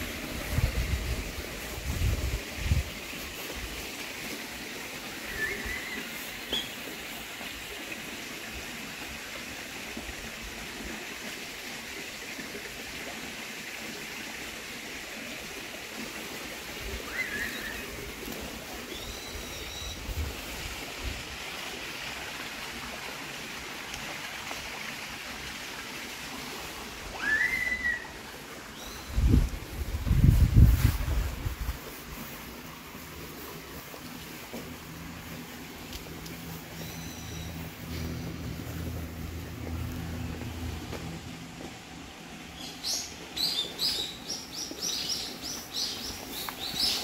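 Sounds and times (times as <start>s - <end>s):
steady outdoor hiss: 0.0s - 47.0s.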